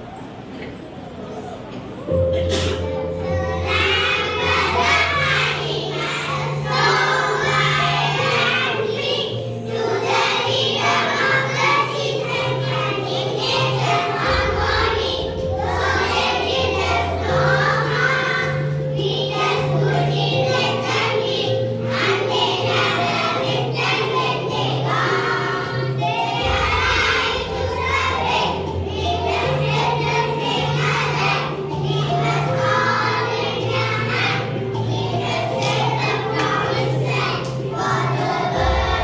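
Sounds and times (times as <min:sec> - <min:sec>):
children singing together: 0:02.1 - 0:39.0.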